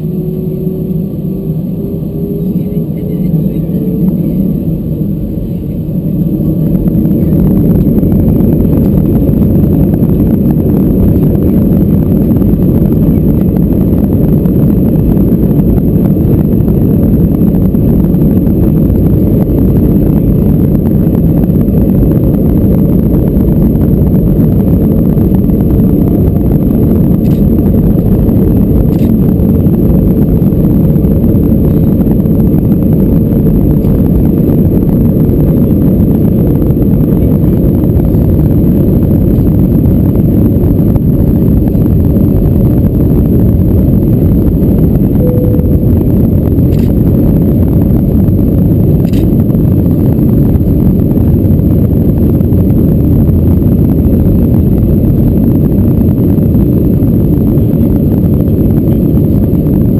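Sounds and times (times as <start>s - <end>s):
jet engines at takeoff thrust: 0.0s - 59.9s
runway rumble: 0.0s - 59.9s.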